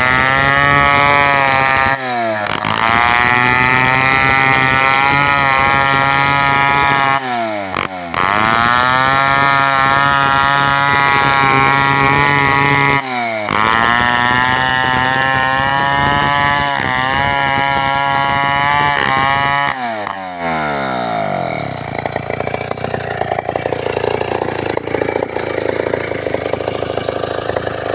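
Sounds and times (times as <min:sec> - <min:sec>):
chainsaw cutting wood: 0:00.0 - 0:27.9.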